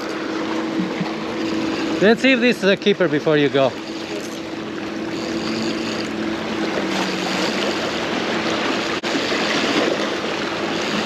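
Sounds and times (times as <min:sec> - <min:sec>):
boat motor droning: 0:00.0 - 0:11.0
water lapping over rocks: 0:00.0 - 0:11.0.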